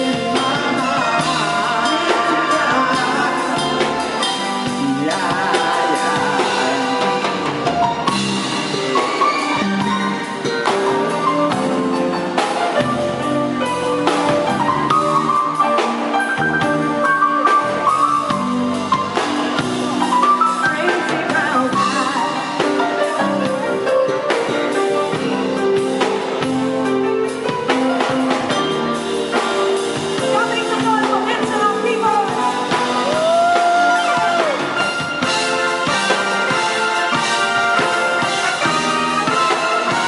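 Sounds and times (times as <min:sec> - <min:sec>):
bass: 0:00.0 - 0:40.0
drum kit: 0:00.0 - 0:40.0
electric keyboards: 0:00.0 - 0:40.0.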